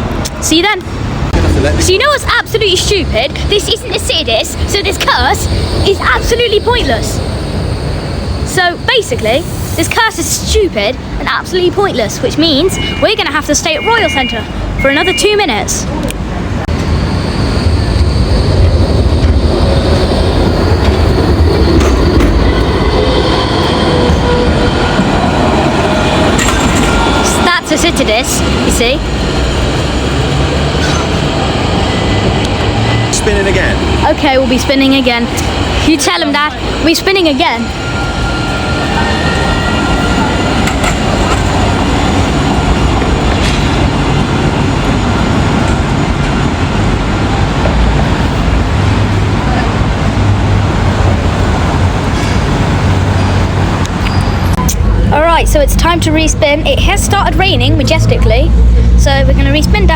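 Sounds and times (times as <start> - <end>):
tram wheels rumbling: 0.0 - 59.9.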